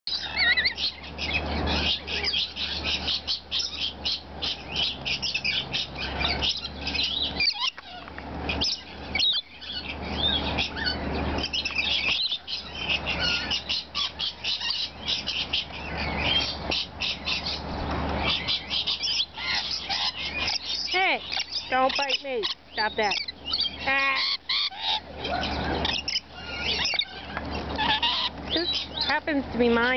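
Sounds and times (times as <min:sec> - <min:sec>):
lorikeets chattering and screeching: 0:00.1 - 0:29.9.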